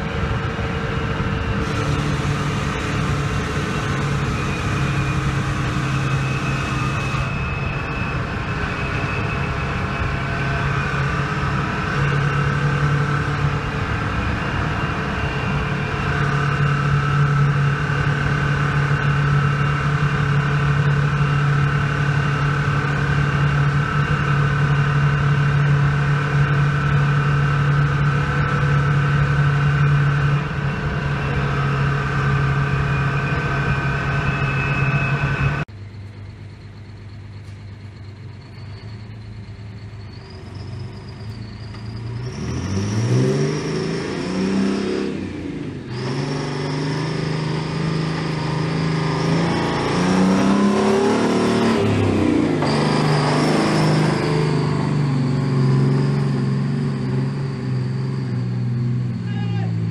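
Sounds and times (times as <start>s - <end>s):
truck diesel engine revving: 0.0s - 35.7s, 38.0s - 59.9s
truck diesel engine drone: 0.0s - 59.9s.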